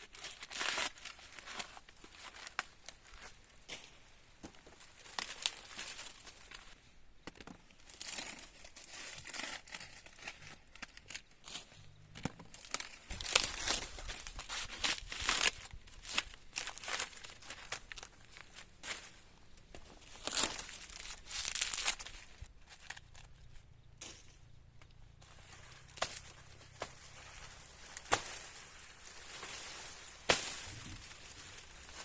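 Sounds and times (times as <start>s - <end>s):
crinkling and rustling: 0.0s - 32.0s.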